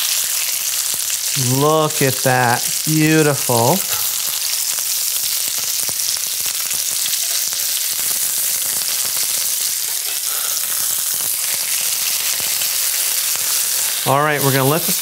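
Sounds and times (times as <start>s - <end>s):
meat sizzling in a skillet: 0.0s - 15.0s
oil crackling and spattering: 0.0s - 15.0s.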